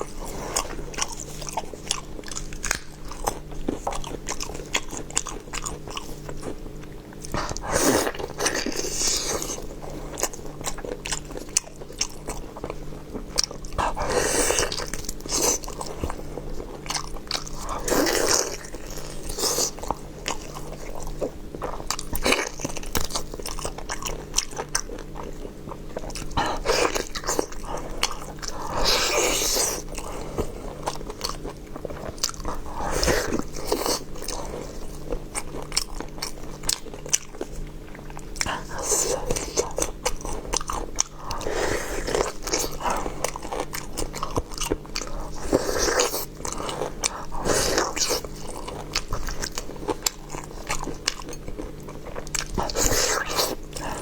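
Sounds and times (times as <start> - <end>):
chewing with wet mouth clicks: 0.0 - 54.0.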